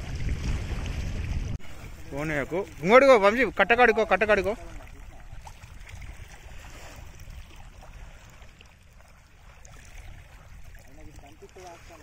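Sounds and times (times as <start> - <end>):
small waves lapping: 0.0 - 12.0
wind rumbling on microphone: 0.0 - 12.0.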